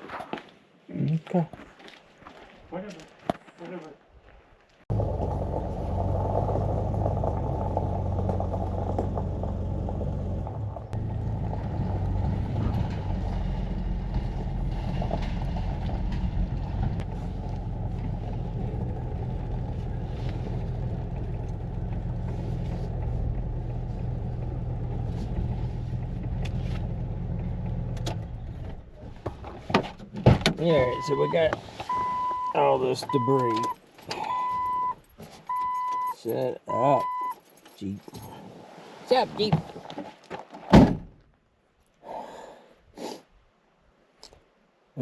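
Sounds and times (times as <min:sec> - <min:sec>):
car engine and road noise: 0:04.9 - 0:41.2.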